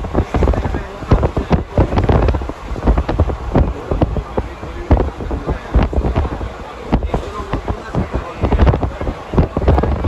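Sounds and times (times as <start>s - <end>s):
train rumble: 0.0s - 10.0s
wheels clattering on track: 0.0s - 10.0s
wind buffeting microphone: 0.0s - 10.0s.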